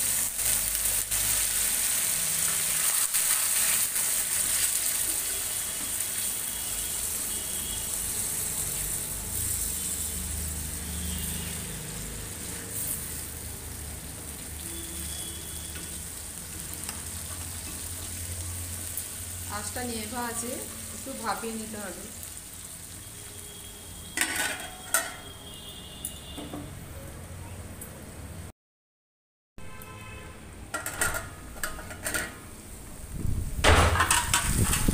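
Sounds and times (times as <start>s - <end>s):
food sizzling in a pan: 0.0s - 25.6s, 32.4s - 34.9s.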